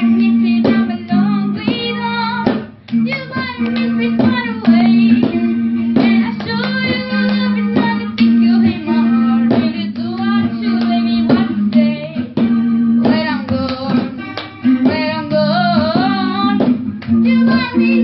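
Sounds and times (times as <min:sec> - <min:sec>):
guitar strumming: 0:00.0 - 0:18.0
person singing: 0:00.0 - 0:18.0.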